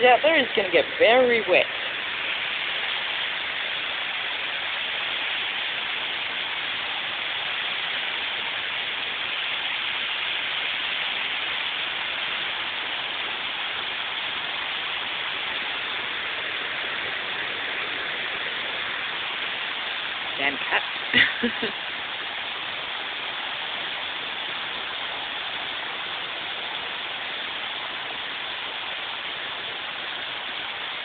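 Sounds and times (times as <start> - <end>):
torrential rain: 0.0 - 31.0.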